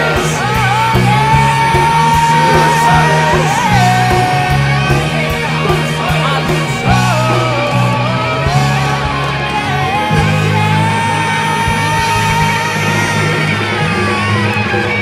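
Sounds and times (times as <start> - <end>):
man singing high note: 0.0 - 14.2
hair metal rock song: 0.0 - 15.0.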